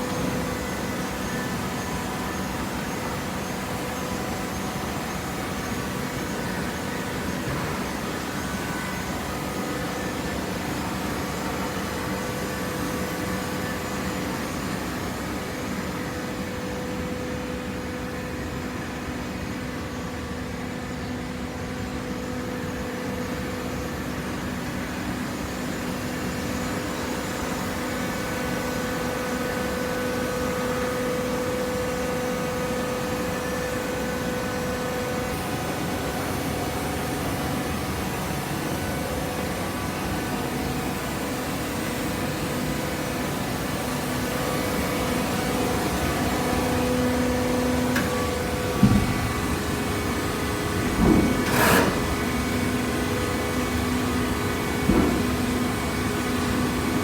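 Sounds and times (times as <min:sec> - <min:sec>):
baler machine hum and whine: 0:00.0 - 0:57.0.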